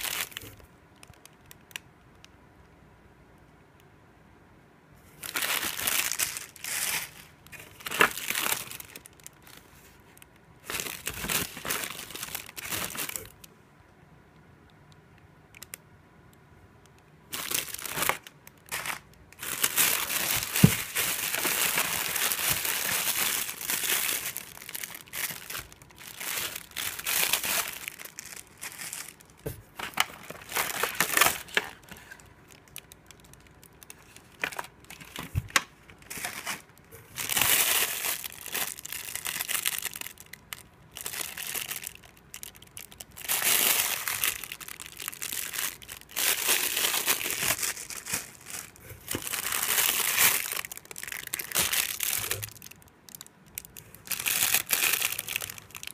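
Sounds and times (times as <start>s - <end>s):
plastic packaging crinkling: 0.0s - 1.8s, 5.1s - 13.5s, 17.2s - 55.9s.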